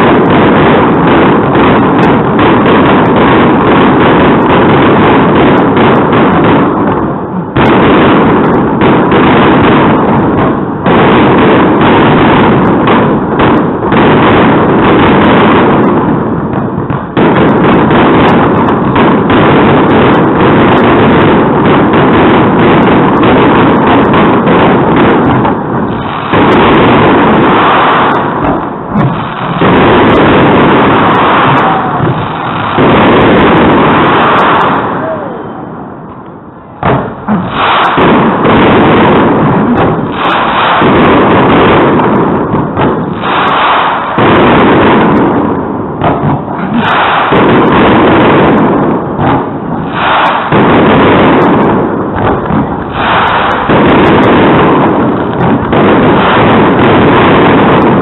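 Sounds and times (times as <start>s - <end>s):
fireworks bangs and crackle: 0.0s - 58.0s.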